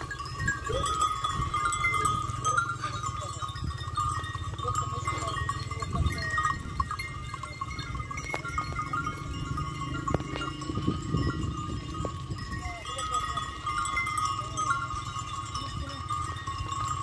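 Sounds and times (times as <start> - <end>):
livestock bells clinking: 0.0 - 17.0.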